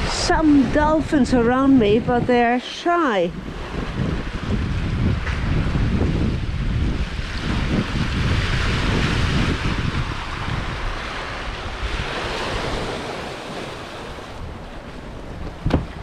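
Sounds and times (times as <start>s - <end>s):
sea water washing past hull: 0.0s - 16.0s
wind buffeting microphone: 0.0s - 16.0s.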